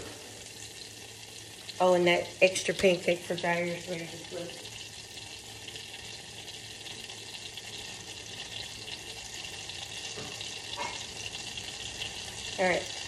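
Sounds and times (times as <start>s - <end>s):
sizzling hiss on stovetop: 0.0s - 13.0s.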